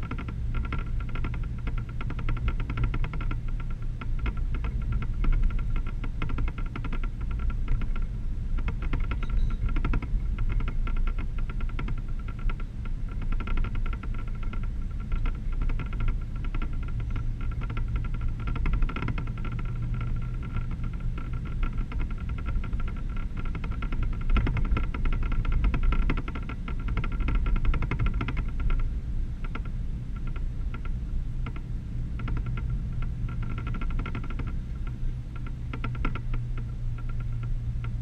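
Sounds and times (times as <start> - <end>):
constant whine: 0.0 - 38.0
fast continuous rattle: 0.0 - 38.0
pickup truck engine and road rumble: 0.0 - 38.0.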